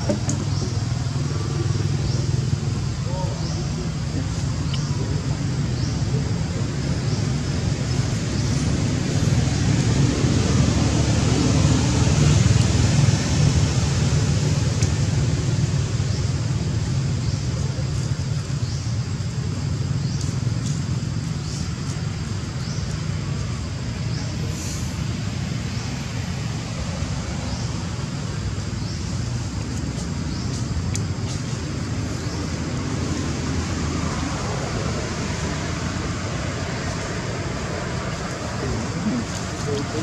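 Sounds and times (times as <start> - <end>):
low outdoor rumble with hiss: 0.0 - 40.0.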